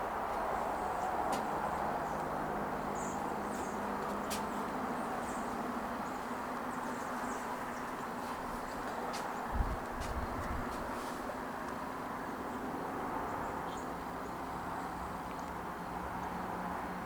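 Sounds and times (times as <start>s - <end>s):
birds chirping overhead: 0.0s - 17.0s.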